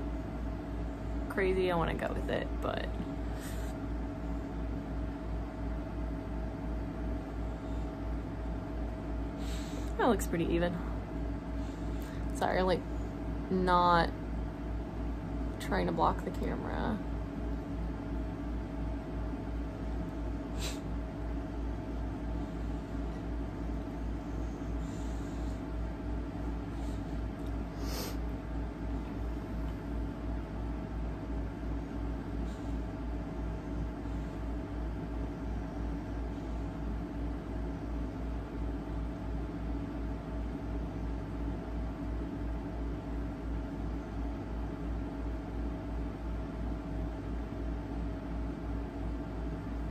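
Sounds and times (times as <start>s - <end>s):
room hum: 0.0s - 49.9s.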